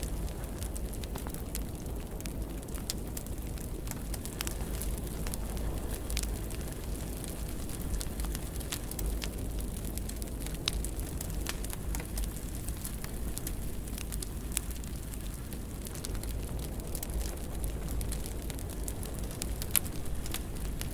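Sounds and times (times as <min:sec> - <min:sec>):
low rumble of burning: 0:00.0 - 0:20.9
wood fire crackling: 0:00.0 - 0:20.9.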